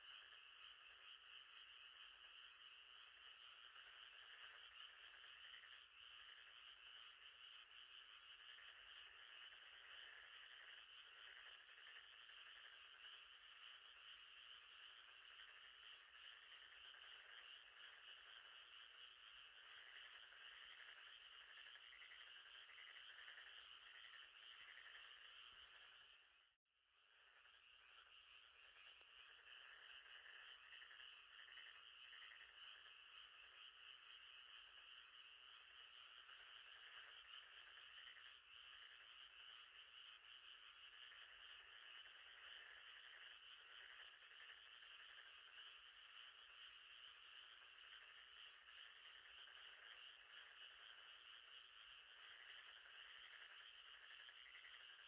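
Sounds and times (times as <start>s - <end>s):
frogs trilling: 0.0s - 55.0s.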